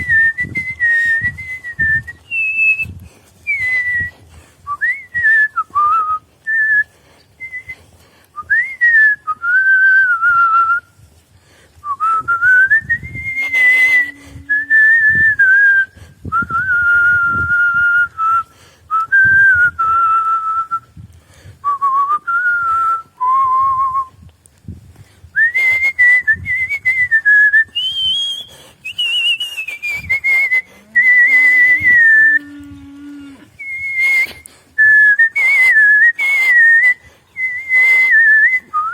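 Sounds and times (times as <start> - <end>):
person whistling a melody: 0.0 - 4.1, 4.7 - 7.8, 8.4 - 10.8, 11.8 - 20.9, 21.6 - 24.2, 25.4 - 32.3, 33.6 - 38.9.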